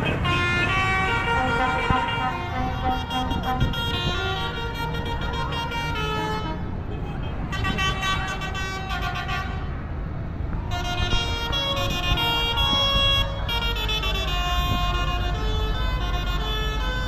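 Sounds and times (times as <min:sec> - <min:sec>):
tractor engines rumbling: 0:00.0 - 0:17.0.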